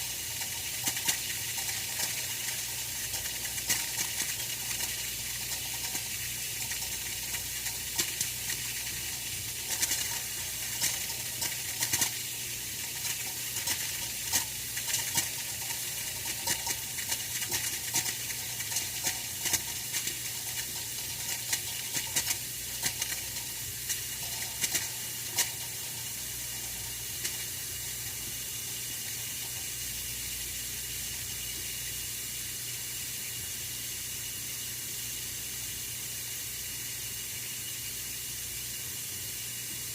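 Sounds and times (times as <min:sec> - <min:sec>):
heater hissing: 0:00.0 - 0:39.9.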